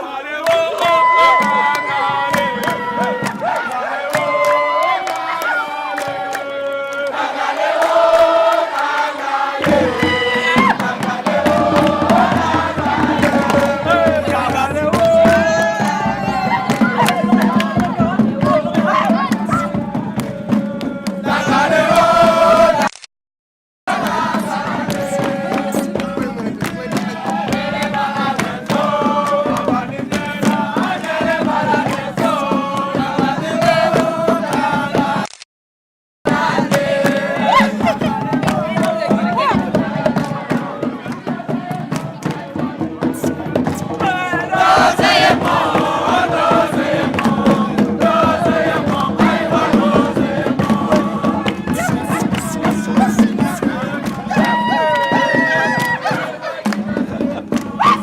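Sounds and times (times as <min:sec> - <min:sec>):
sharp percussive beats: 0:00.0 - 0:22.9, 0:23.9 - 0:35.2, 0:36.3 - 0:58.0
voices chanting together: 0:00.0 - 0:22.9, 0:23.9 - 0:35.3, 0:36.3 - 0:58.0.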